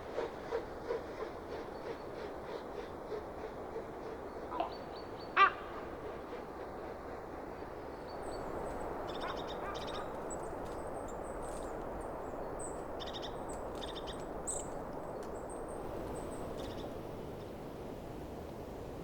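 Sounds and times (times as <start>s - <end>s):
wind rushing through pine trees: 0.0s - 19.0s.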